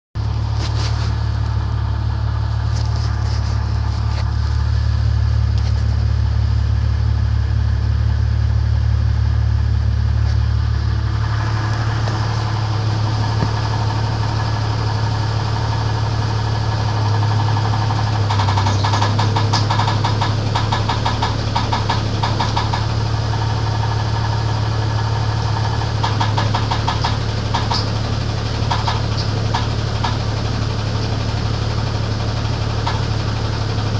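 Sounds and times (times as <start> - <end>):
car engine idling: 0.2 - 33.9
engine knock ticking: 0.2 - 33.9.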